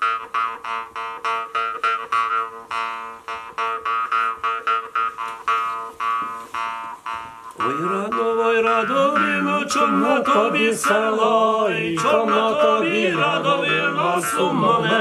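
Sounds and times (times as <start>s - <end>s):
jew's harp buzzing drone: 0.0s - 15.0s.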